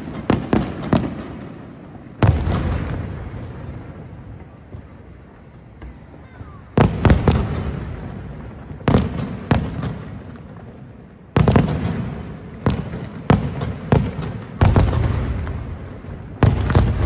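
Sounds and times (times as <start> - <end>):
firework shells booming: 0.0 - 17.0.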